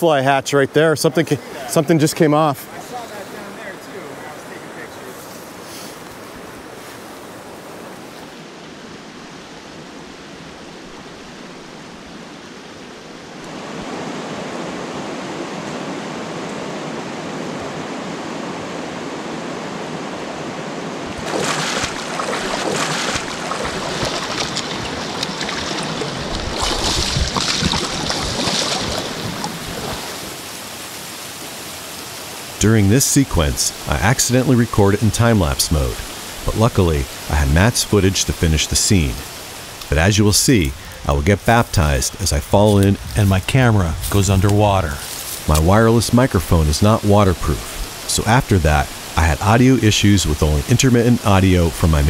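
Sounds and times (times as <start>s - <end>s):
stream water rushing: 0.0s - 52.0s.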